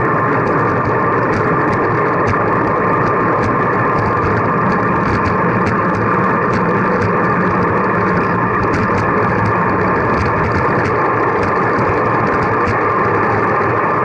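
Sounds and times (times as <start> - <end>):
bicycle road noise: 0.0 - 14.0
rushing wind: 0.0 - 14.0.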